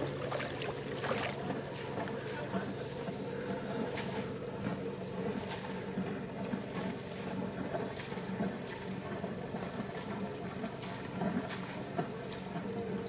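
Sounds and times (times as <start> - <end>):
water splashes: 0.0 - 4.7, 5.3 - 13.0
low engine hum: 0.0 - 13.0.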